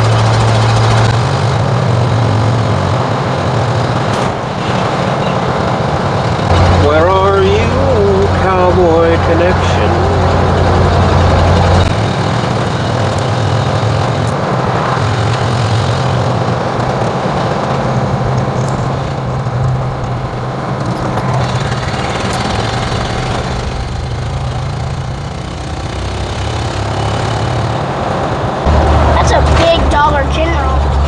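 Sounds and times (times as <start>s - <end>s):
road and wind noise: 0.0s - 31.0s
truck engine running: 0.0s - 31.0s.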